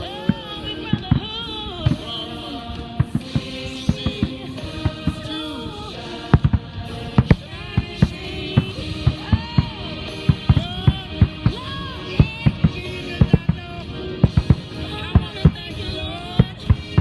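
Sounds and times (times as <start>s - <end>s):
fireworks bursting: 0.0s - 17.0s
song over loudspeakers: 0.0s - 17.0s.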